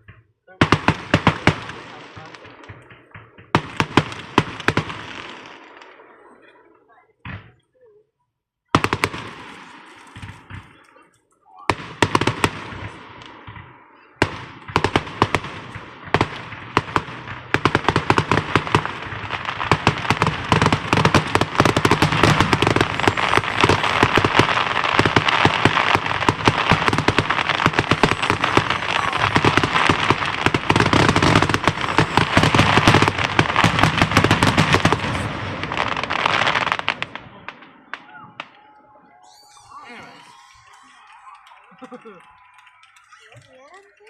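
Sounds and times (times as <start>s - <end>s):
fireworks popping and crackling: 0.0s - 6.5s, 8.7s - 44.0s.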